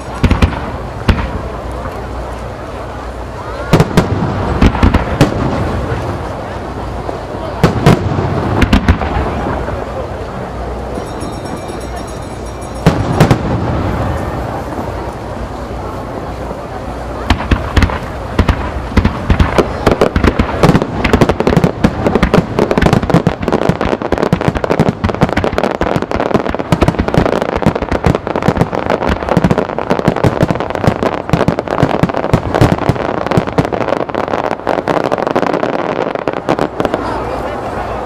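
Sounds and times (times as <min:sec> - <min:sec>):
fireworks barrage bursts: 0:00.0 - 0:38.0.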